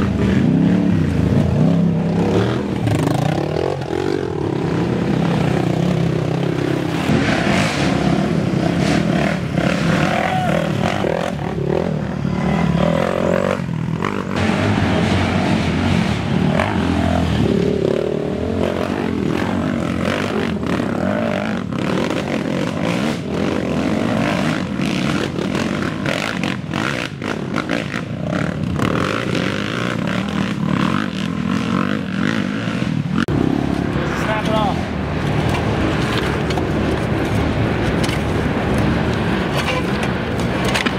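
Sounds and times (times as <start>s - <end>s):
atv engines revving: 0.0s - 40.9s.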